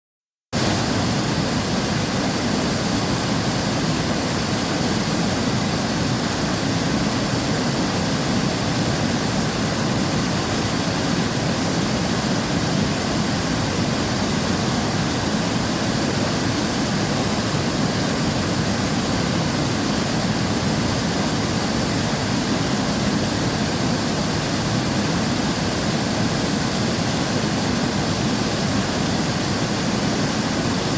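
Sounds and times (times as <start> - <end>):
river water rushing: 0.6 - 30.9.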